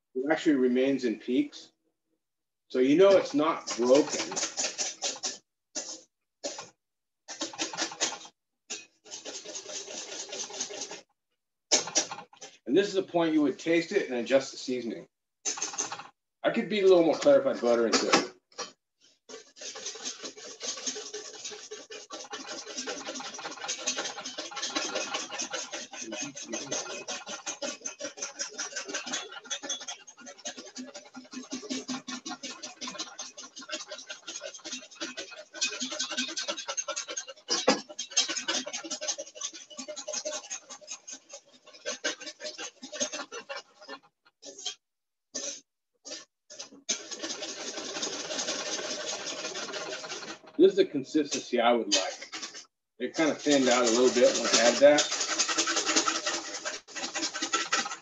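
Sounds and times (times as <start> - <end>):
whisk scraping metal bowl: 2.7 - 6.7, 7.3 - 11.1, 11.7 - 44.8, 45.4 - 58.0.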